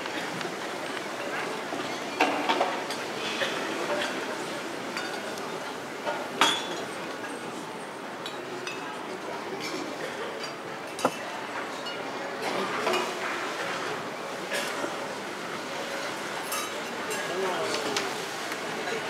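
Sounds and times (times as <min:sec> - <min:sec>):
murmur of arena crowd: 0:00.0 - 0:19.0.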